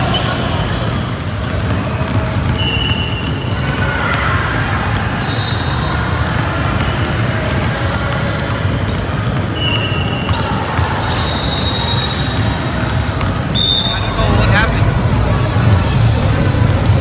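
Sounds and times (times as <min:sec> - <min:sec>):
basketballs bouncing on wooden floor: 0:00.0 - 0:17.0.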